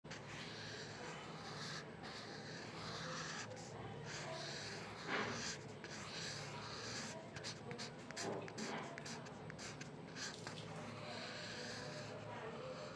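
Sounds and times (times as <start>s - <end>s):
pen scratching on paper: 0.0s - 12.9s.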